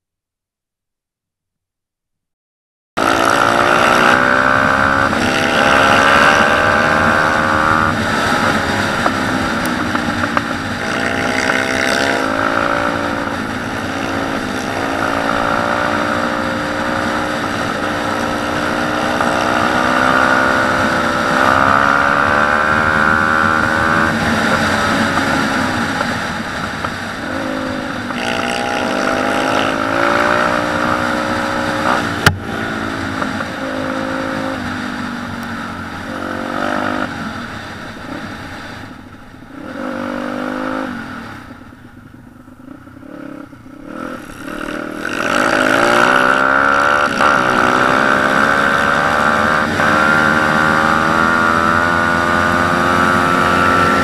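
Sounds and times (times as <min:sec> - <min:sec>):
motorcycle engine accelerating: 0:03.0 - 0:54.0
wind rushing over microphone: 0:03.0 - 0:54.0.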